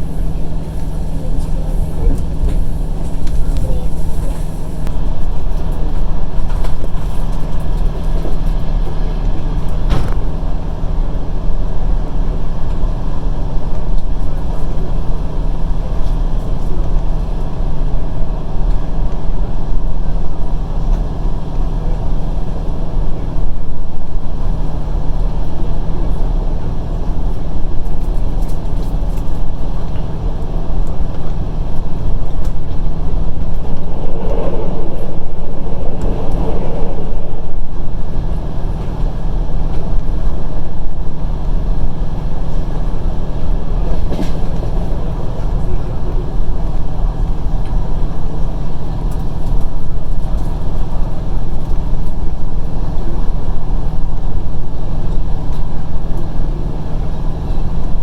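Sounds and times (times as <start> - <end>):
train wheels rumbling on rails: 0.0 - 54.2.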